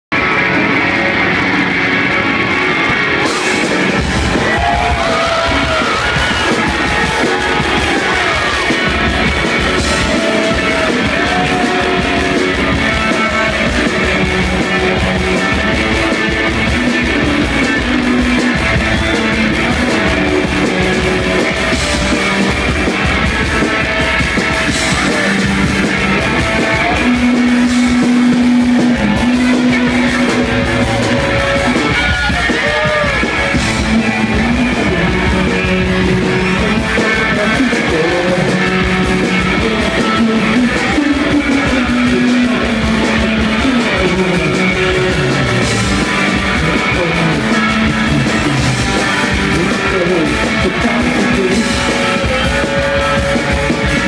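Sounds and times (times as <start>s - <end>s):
rock band playing: 0.1s - 54.0s.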